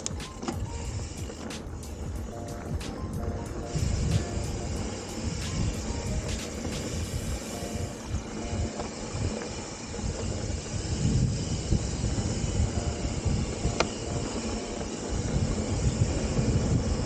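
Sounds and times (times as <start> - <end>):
bike tyre and frame rattle: 0.0 - 17.0
wind rumbling on microphone: 0.0 - 17.0.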